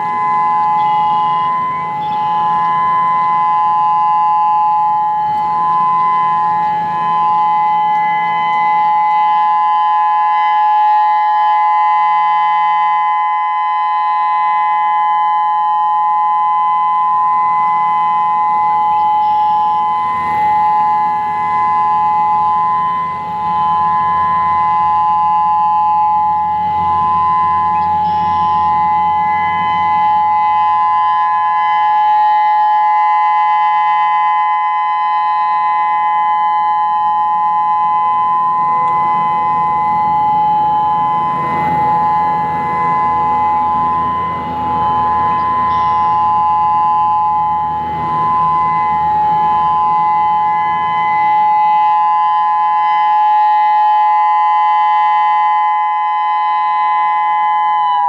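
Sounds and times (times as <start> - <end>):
electronic warning siren two-tone: 0.0 - 58.0.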